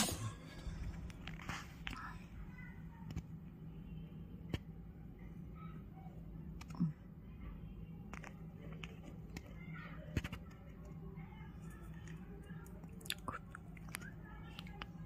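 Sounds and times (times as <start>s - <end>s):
faint voices: 0.0s - 15.0s
steady low hum: 0.0s - 15.0s.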